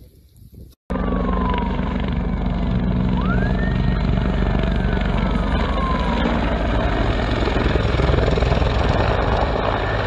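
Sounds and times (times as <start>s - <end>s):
helicopter rotor beating: 0.9s - 10.0s.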